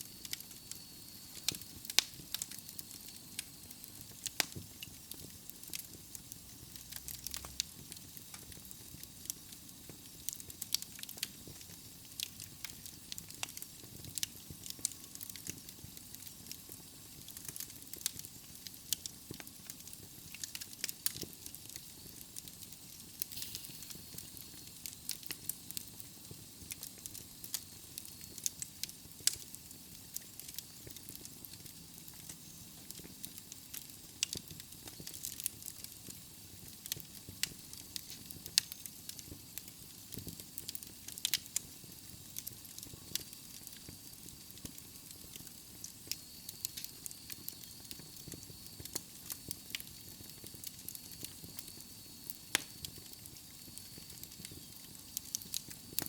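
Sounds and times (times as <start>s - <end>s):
fire crackling and popping: 0.0s - 56.0s
low hiss of fire: 0.0s - 56.0s.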